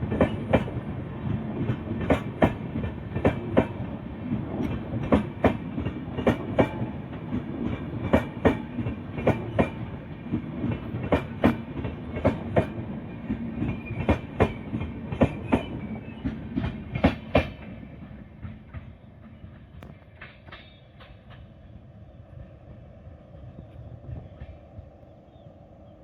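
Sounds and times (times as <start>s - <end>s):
train wheels clicking over rail joints: 0.0s - 21.7s
train rumble: 0.0s - 26.0s.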